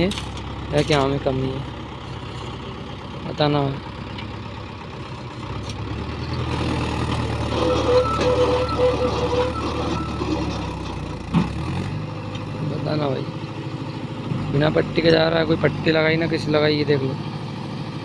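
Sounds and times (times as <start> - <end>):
diesel tractor engine pulling hard: 0.0 - 18.0.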